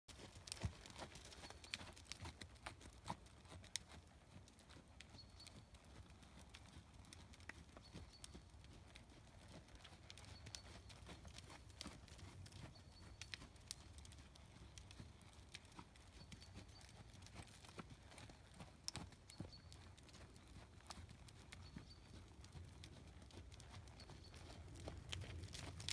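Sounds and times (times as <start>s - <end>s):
horse hoofbeats on sand: 0.1s - 25.9s.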